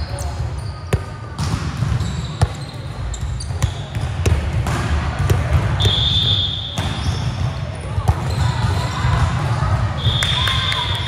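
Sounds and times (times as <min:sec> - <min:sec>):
murmur of voices: 0:00.0 - 0:11.0
basketball bouncing on gym floor: 0:00.1 - 0:10.4.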